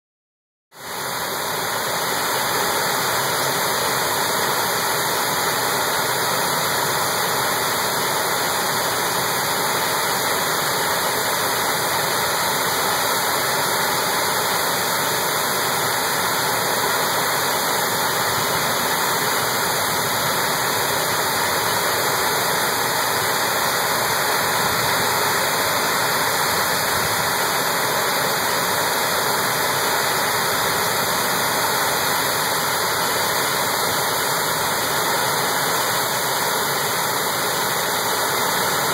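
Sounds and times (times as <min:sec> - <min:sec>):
water rushing over a dam spillway: 0:00.8 - 0:38.9.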